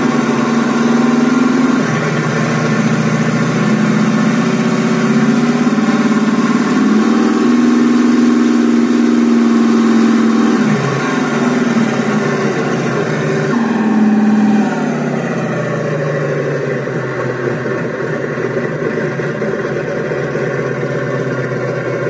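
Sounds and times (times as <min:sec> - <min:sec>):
tank engine idling and revving: 0:00.0 - 0:22.0.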